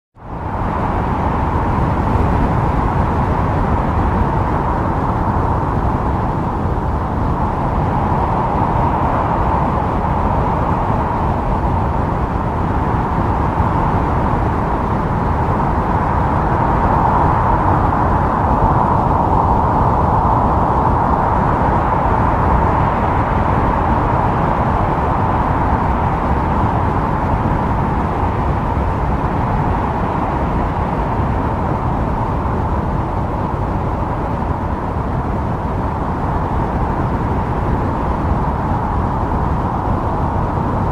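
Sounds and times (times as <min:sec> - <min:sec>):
wind blowing: 0:00.2 - 0:40.9.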